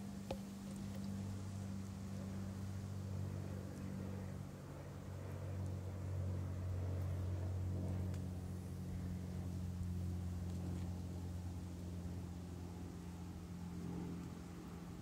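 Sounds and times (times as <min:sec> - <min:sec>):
distant engine drone: 0:00.0 - 0:15.0.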